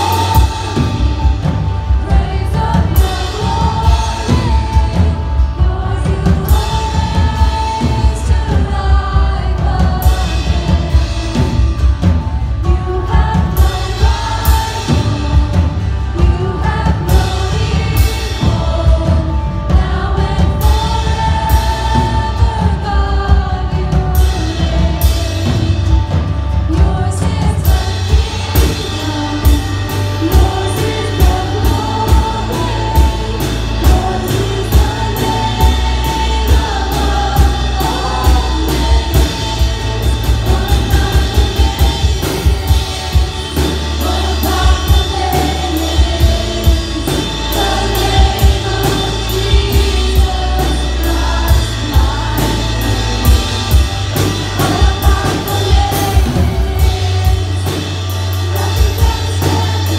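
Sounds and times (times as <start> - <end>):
band accompaniment with heavy bass: 0.0 - 59.9
steady drum beat: 0.0 - 59.9
women singing into microphones: 0.0 - 59.9.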